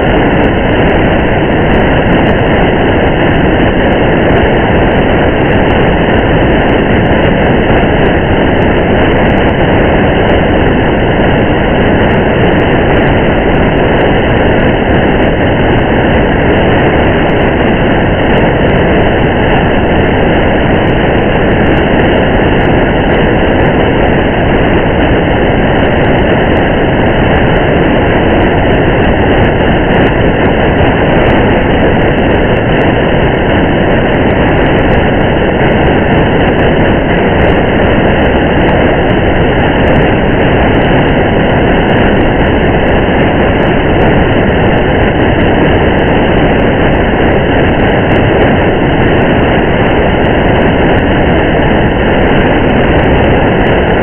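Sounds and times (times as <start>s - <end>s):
steady rain: 0.0s - 53.8s.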